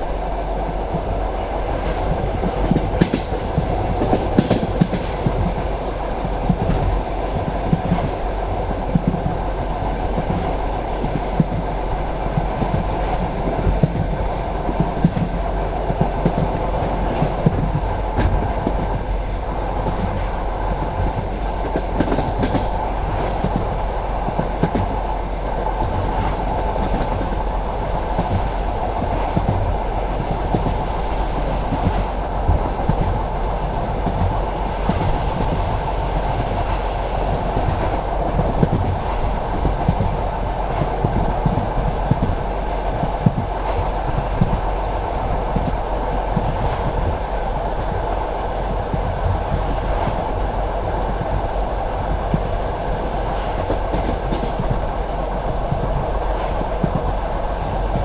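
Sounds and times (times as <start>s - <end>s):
rail joint clicks: 0.0s - 58.0s
train wheels rumbling on rails: 0.0s - 58.0s.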